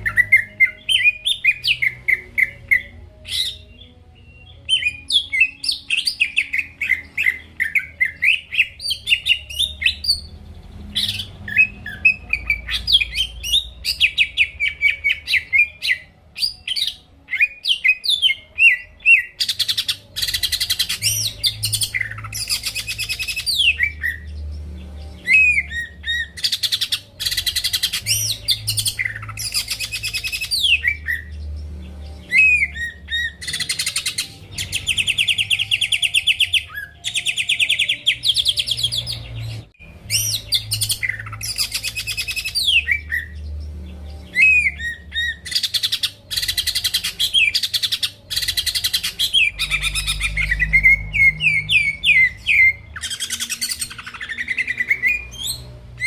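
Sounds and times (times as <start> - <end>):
bird singing chirps and whistles: 0.0 - 56.0.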